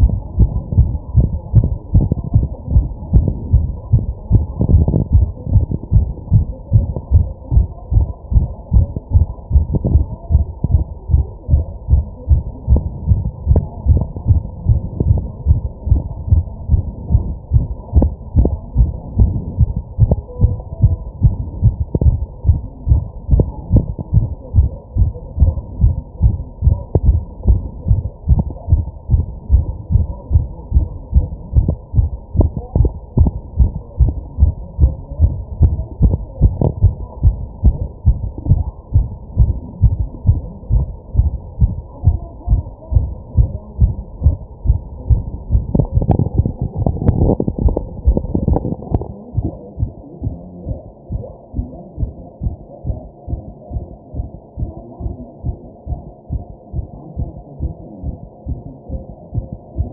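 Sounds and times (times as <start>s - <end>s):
heartbeat thuds: 0.0s - 59.9s.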